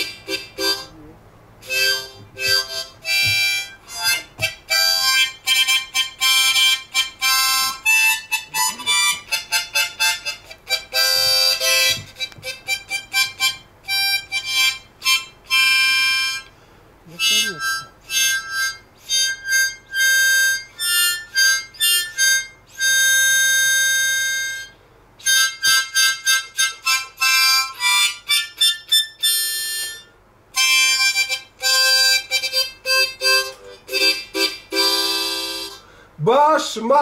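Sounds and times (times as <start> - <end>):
solo harmonica tune: 0.0 - 1.0, 1.6 - 36.1.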